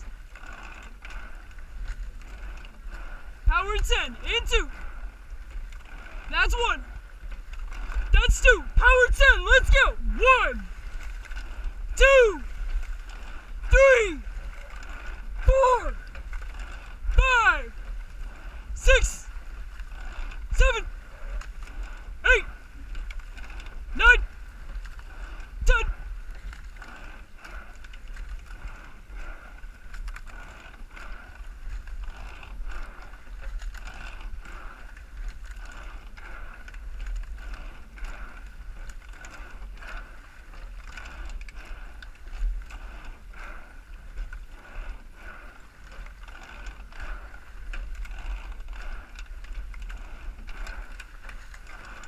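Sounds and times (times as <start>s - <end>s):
low rumble: 0.0s - 52.0s
oars knocking in oarlocks: 0.0s - 52.0s
water noise: 0.0s - 52.0s.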